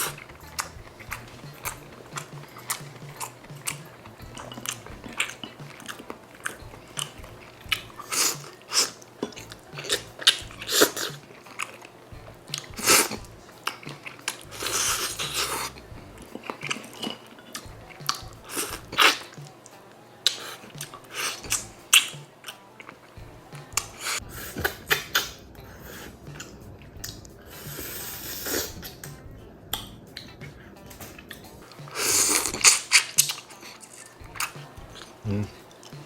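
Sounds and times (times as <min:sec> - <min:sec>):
chewing and biting: 0:00.0 - 0:36.0.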